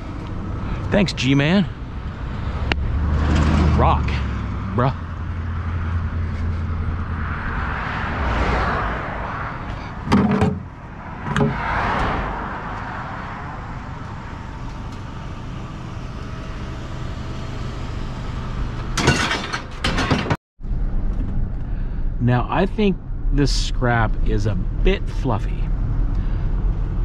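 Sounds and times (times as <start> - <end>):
road noise: 0.0 - 27.0
vehicle engine hum: 0.0 - 27.0.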